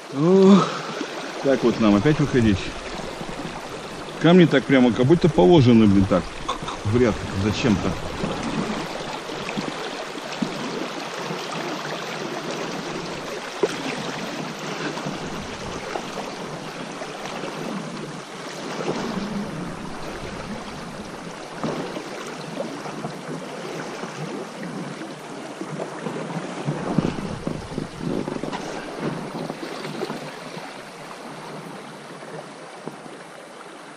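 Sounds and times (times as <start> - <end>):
river water rushing over rocks: 0.0 - 33.9.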